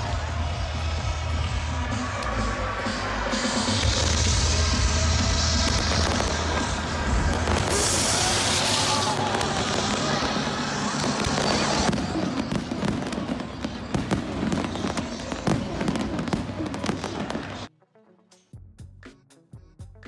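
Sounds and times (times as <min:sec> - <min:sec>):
fireworks crackling bangs: 0:00.0 - 0:17.7
steady rush of noise: 0:00.0 - 0:17.7.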